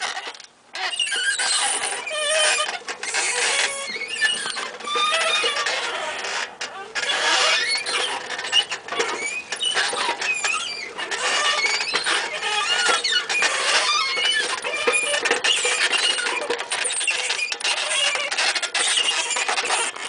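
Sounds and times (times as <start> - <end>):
rusty tricycle squeaking and creaking: 0.0 - 20.0.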